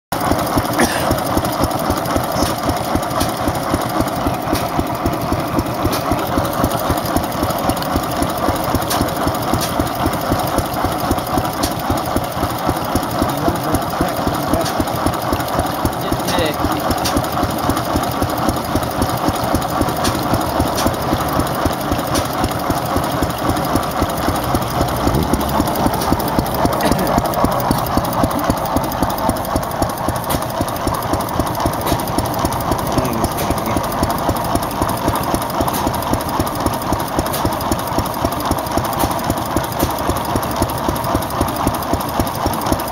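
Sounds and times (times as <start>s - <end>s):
stationary engine running steadily: 0.1s - 42.9s.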